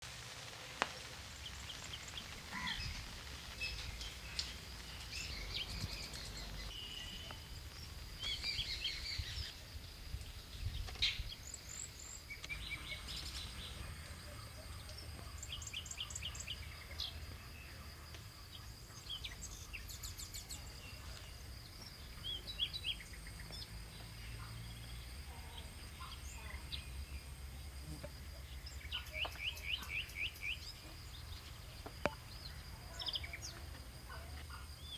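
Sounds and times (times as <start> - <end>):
birds chirping and trilling: 1.4 - 9.7, 10.3 - 27.3, 28.4 - 34.9.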